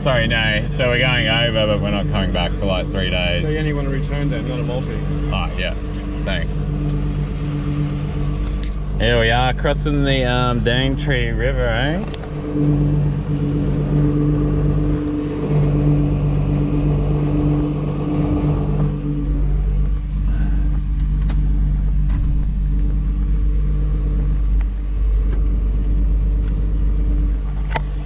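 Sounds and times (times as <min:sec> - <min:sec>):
ferry engines rumbling: 0:00.0 - 0:28.0.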